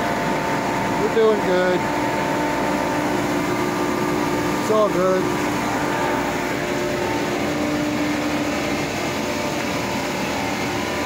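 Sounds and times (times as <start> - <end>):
chillers and water pumps droning: 0.0 - 11.0.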